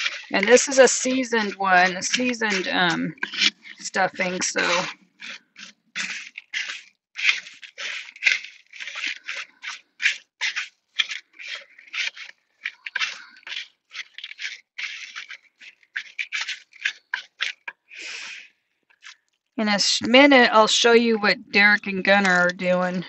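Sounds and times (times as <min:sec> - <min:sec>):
wooden spoon scraping plastic bowl: 0:00.0 - 0:23.0.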